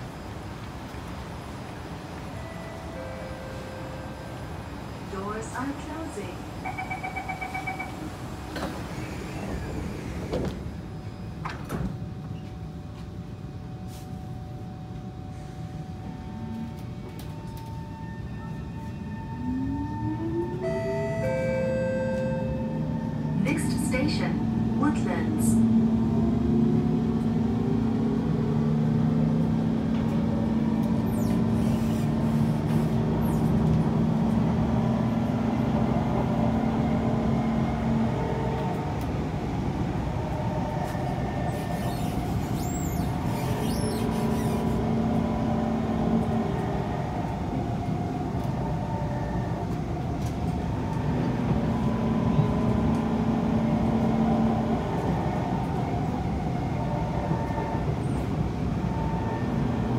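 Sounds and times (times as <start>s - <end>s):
train running noise: 0.0s - 59.9s.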